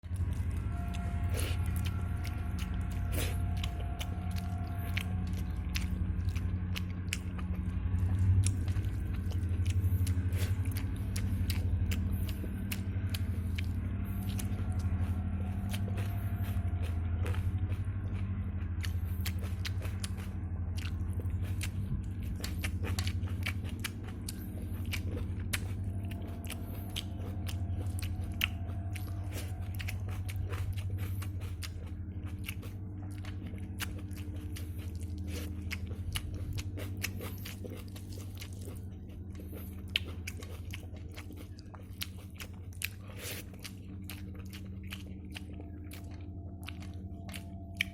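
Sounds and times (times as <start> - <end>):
person chewing food: 0.0 - 47.9
steady low hum: 0.0 - 47.9.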